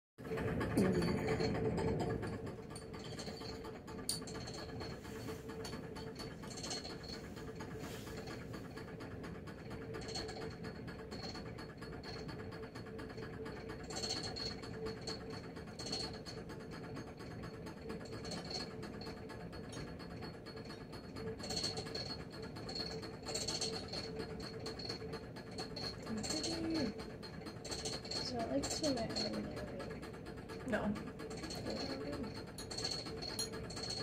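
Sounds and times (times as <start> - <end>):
lab equipment humming: 0.2 - 34.0.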